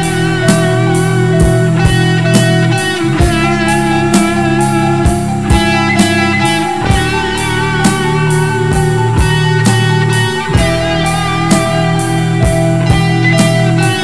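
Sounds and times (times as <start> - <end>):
rock guitar: 0.0 - 14.0
steady drum beat: 0.0 - 14.0.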